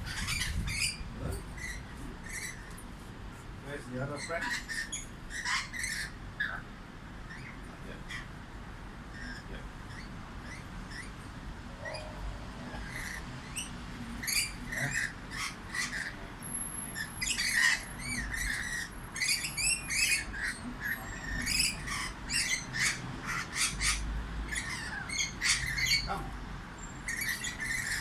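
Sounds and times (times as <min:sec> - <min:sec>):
pet birds chirping and squawking: 0:00.0 - 0:28.0.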